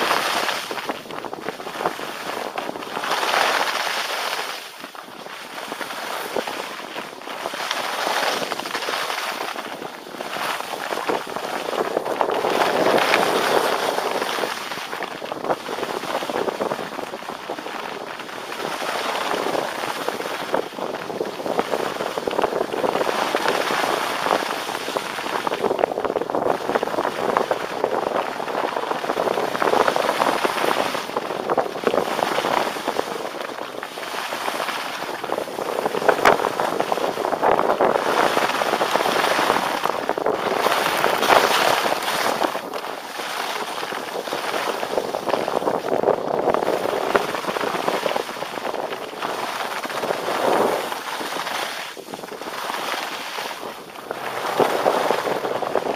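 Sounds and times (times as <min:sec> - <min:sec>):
skis scraping over snow: 0:00.0 - 0:55.9.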